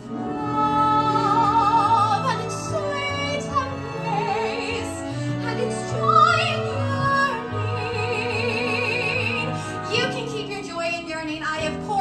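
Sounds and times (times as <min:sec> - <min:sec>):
woman singing with vibrato: 0:00.1 - 0:12.0.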